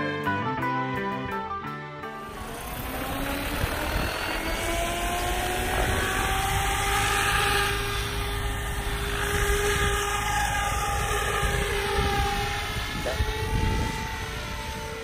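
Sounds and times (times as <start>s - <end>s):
rc helicopter motor whine: 2.2s - 15.0s.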